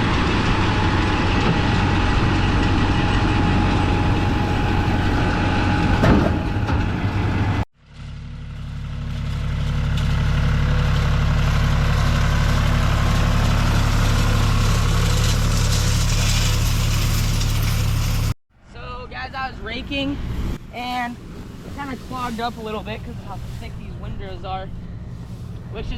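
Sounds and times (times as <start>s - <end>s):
tractor engine running: 0.0s - 18.4s, 19.6s - 25.9s.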